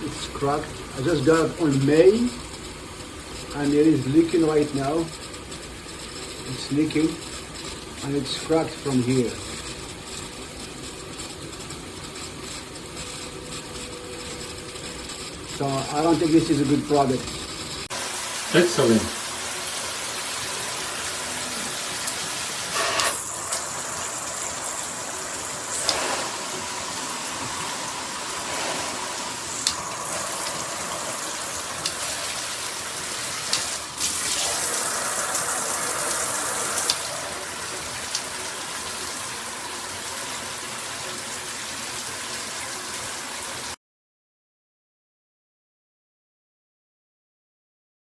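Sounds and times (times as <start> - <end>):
shower head spraying water: 0.0 - 43.8.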